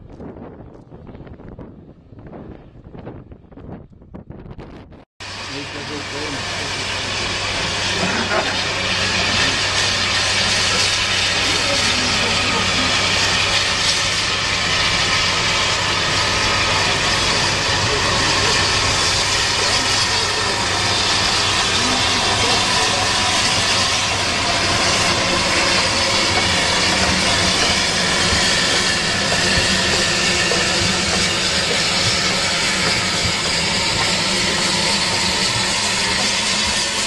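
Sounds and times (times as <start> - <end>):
hiss and rush of steam: 5.2 - 37.0.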